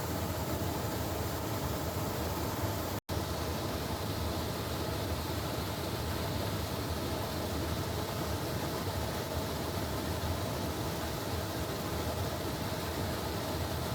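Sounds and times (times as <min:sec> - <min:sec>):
constant hiss: 0:00.0 - 0:13.9.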